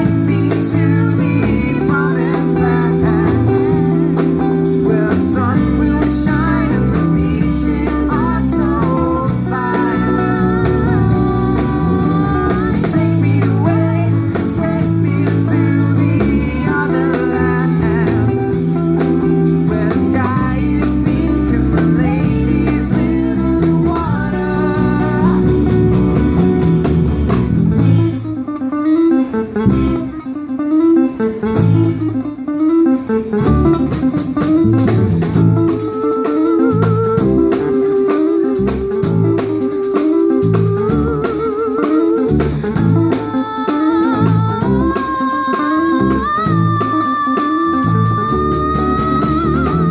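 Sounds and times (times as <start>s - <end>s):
band music with guitar and bass: 0.0s - 49.9s
wavering lead line: 0.0s - 49.9s.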